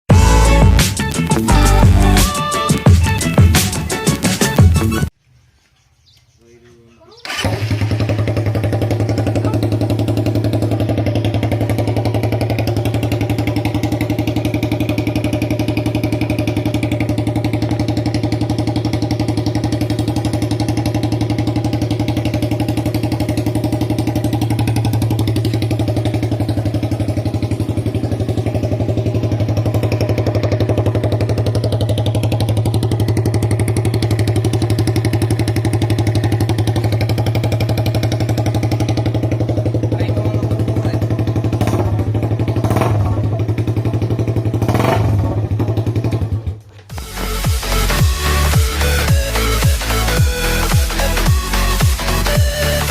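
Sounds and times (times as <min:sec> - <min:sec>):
motorcycle engine idling: 0:00.1 - 0:05.1, 0:07.1 - 0:52.9.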